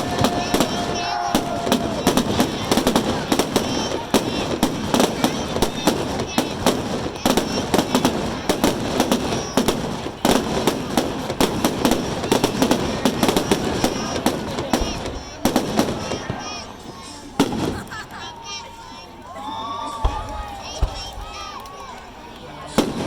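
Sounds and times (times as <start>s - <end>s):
fireworks bangs and crackles: 0.0s - 18.6s, 20.0s - 23.0s.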